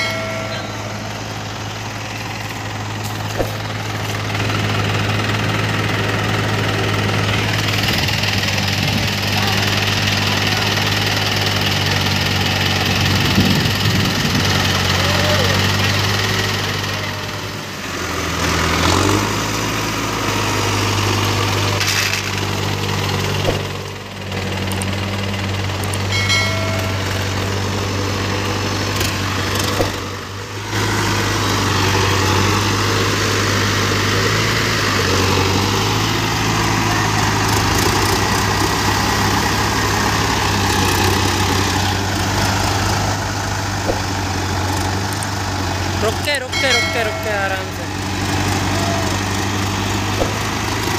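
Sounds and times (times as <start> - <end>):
tractor diesel engines running hard: 0.0 - 50.9.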